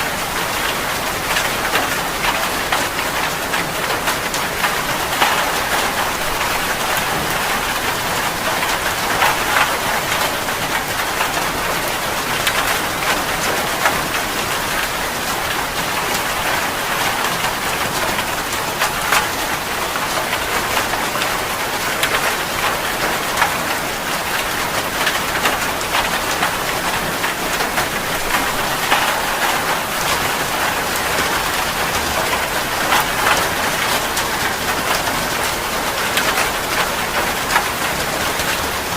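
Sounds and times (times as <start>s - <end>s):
heavy rain: 0.0s - 38.9s
raindrops pattering and splashing: 0.0s - 38.9s.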